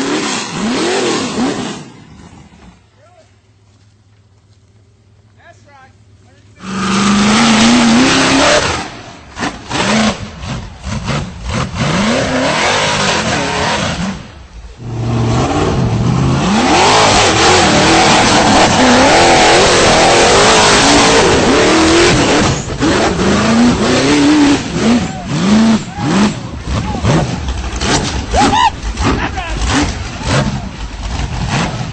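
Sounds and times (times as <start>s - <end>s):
buggy engine revving: 0.0s - 31.9s.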